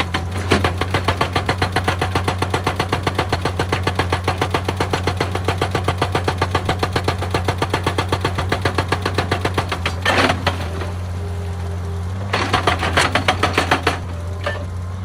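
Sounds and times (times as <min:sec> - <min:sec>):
hydraulic breaker hammering stone: 0:00.0 - 0:11.0, 0:12.2 - 0:14.8
diesel engine humming: 0:00.0 - 0:15.0.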